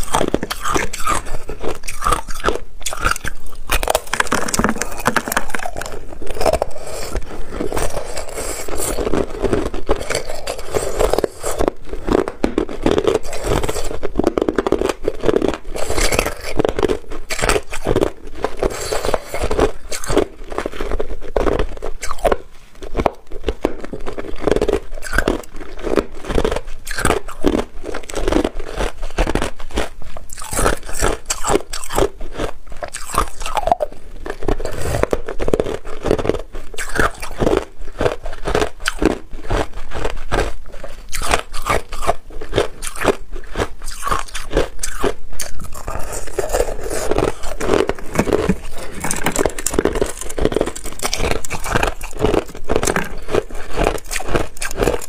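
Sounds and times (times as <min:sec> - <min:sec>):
person chewing ice: 0:00.0 - 0:55.0.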